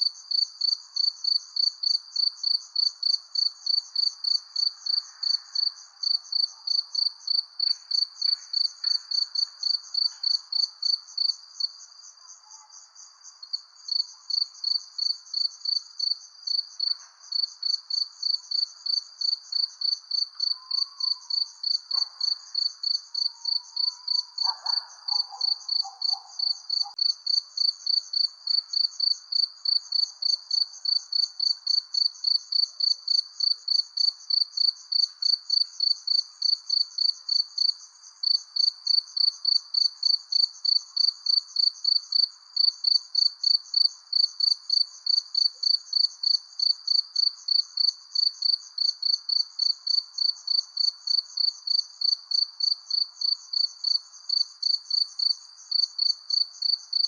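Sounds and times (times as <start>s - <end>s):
crickets chirping: 0.0s - 57.0s
faint night background hiss: 0.0s - 57.0s.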